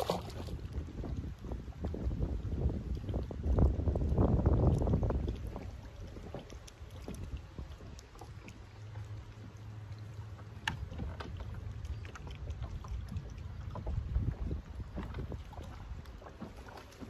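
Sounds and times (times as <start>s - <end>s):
waves lapping against boat hull: 0.0s - 17.0s.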